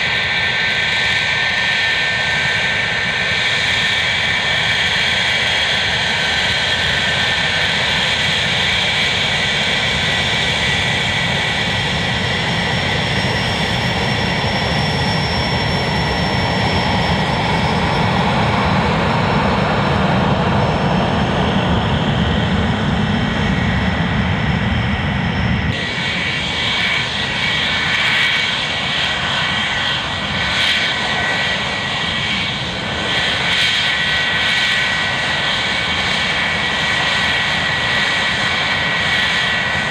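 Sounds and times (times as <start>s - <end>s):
jet engine whine: 0.0s - 39.9s
low jet rumble: 0.0s - 39.9s.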